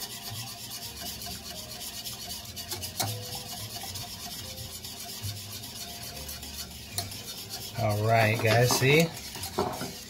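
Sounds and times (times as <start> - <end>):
whisk clink against pan: 0.0 - 10.0
whisk scraping in saucepan: 0.0 - 10.0.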